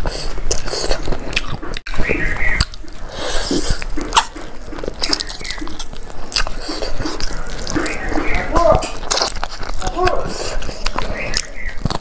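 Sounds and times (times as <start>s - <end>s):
lip smacks: 0.0s - 12.0s
mouth clicks: 0.0s - 12.0s
wet chewing: 0.0s - 12.0s.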